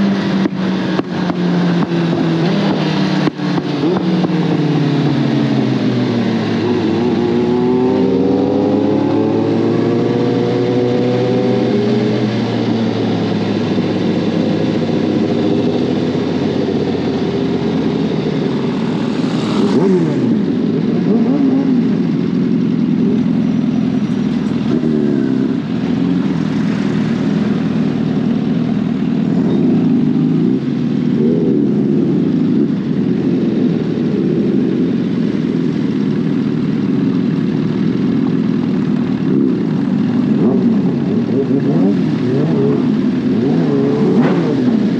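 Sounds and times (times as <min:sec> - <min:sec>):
motorcycle engine accelerating: 0:00.0 - 0:44.9
wind and road noise: 0:00.0 - 0:44.9.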